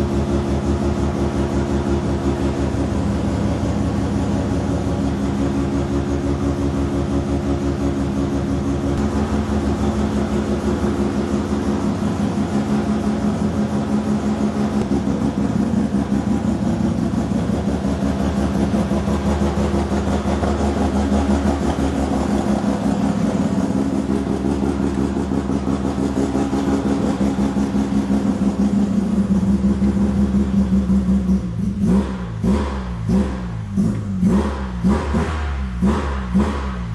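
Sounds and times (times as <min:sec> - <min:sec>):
rotary engine idling: 0:00.0 - 0:31.9.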